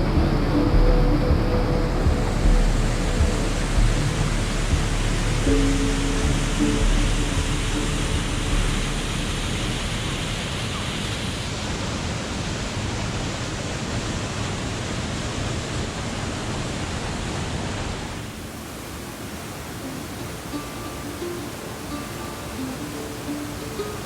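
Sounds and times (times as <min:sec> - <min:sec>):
waterfall rushing water: 0:00.0 - 0:24.0.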